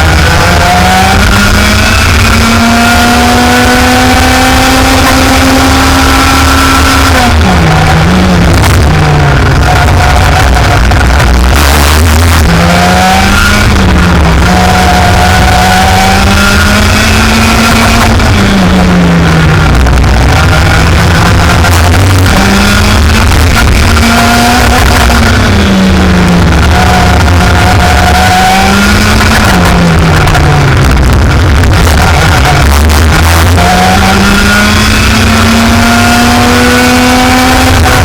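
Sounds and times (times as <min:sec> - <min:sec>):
kart engine revving: 0:00.0 - 0:38.0.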